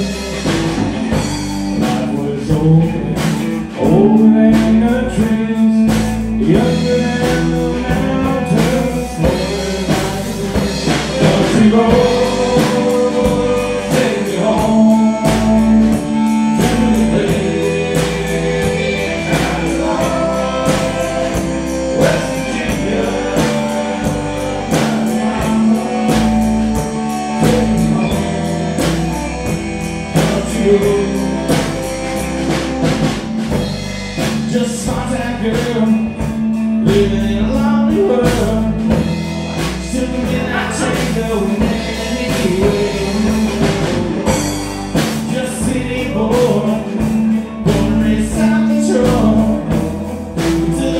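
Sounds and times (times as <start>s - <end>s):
live country band: 0.0s - 50.9s
man singing: 0.0s - 50.9s.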